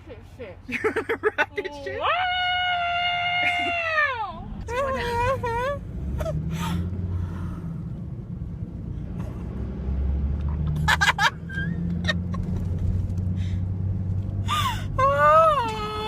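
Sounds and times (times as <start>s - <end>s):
car road rumble: 0.0s - 16.0s.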